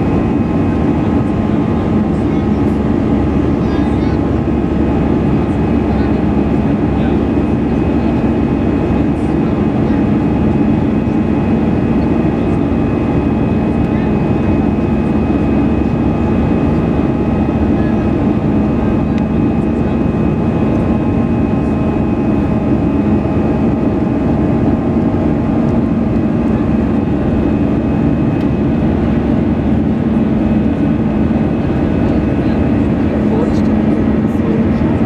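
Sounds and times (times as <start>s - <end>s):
jet engines heard in cabin: 0.0s - 35.0s.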